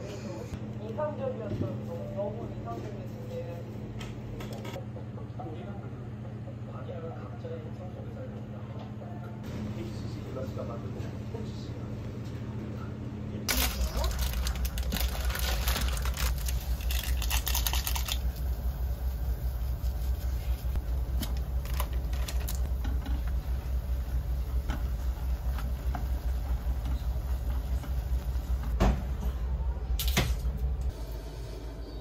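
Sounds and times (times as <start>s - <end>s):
low machine hum: 0.0s - 32.0s.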